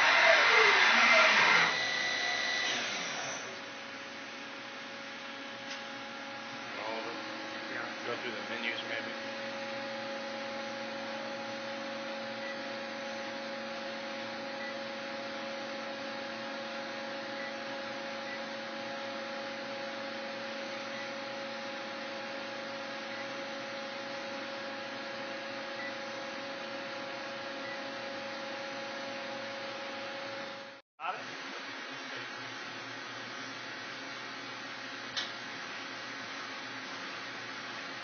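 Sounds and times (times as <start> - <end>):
milling machine humming: 0.0 - 38.0.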